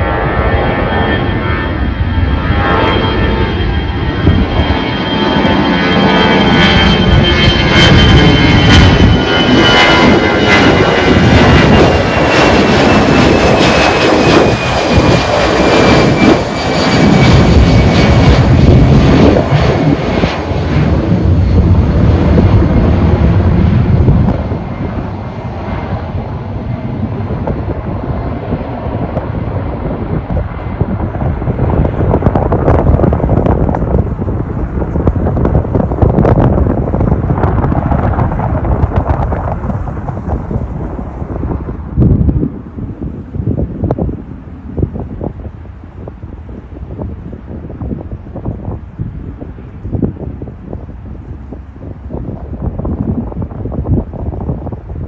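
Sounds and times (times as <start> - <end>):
jet airliner taking off: 0.0 - 55.0.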